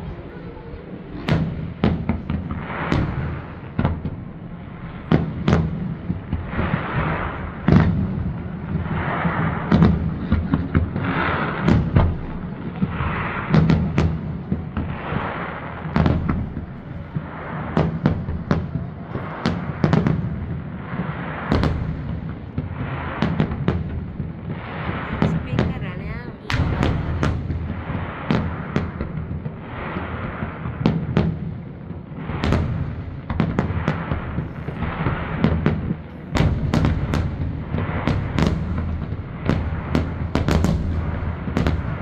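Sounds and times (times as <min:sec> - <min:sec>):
firework crackle: 0:00.0 - 0:42.0.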